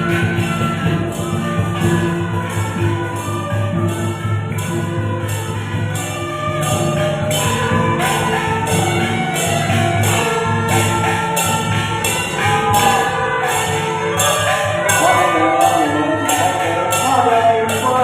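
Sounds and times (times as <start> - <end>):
cymbals crashing: 0.0 - 18.0
wavering melody: 0.0 - 18.0.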